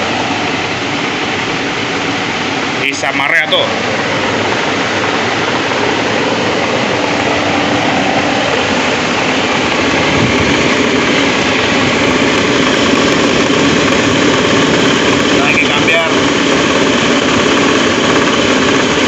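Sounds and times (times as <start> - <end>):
car engine idling: 0.0 - 19.0
electric cooling fan running: 0.0 - 19.0.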